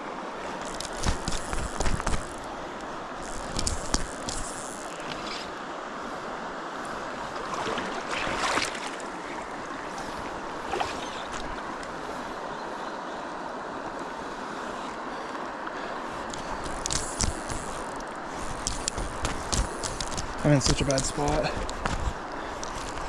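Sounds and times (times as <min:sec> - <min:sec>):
river current rushing: 0:00.0 - 0:23.0.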